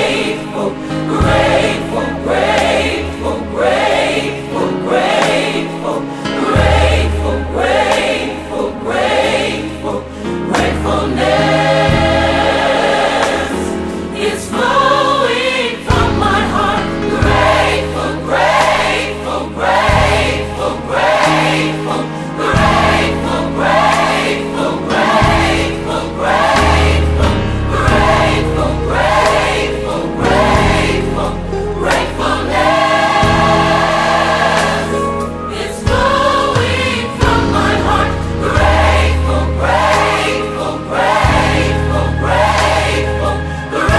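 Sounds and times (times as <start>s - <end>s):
gospel choir singing: 0.0s - 43.9s.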